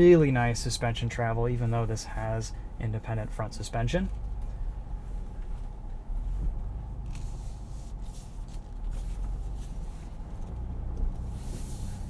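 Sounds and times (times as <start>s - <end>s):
engine and drivetrain rumble: 0.0s - 12.0s.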